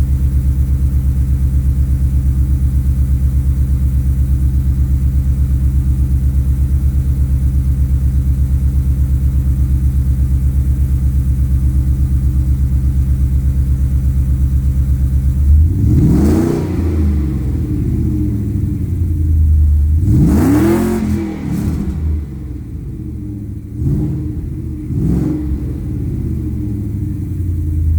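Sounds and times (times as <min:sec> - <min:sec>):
car exhaust idling and revving: 0:00.0 - 0:27.9.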